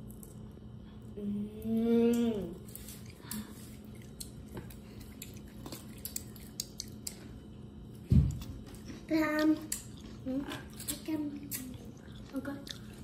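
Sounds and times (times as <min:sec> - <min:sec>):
child chewing food: 0:00.0 - 0:01.2, 0:01.9 - 0:13.0.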